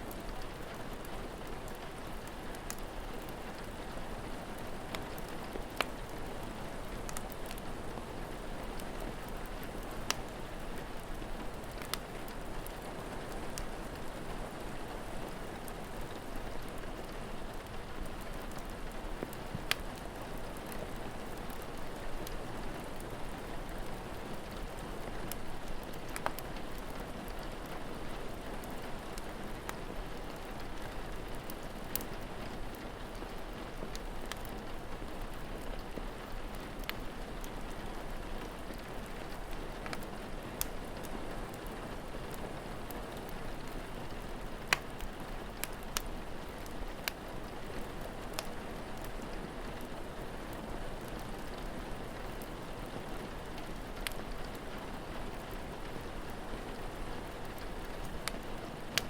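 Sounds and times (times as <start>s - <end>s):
steady rain falling: 0.0s - 59.0s
wood fire crackling and popping: 0.0s - 59.0s.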